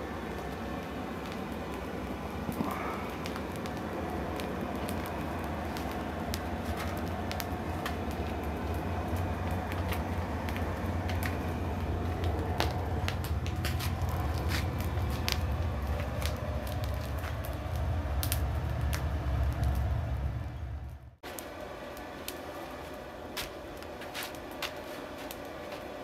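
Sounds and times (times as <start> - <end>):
small crackles and pops: 0.0 - 20.0, 21.2 - 25.9
forge roaring: 0.0 - 23.9.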